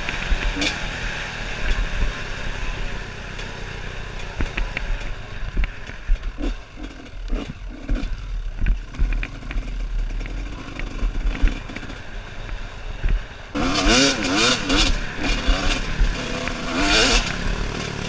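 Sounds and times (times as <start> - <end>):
motorcycle engine running unevenly: 0.0 - 18.0.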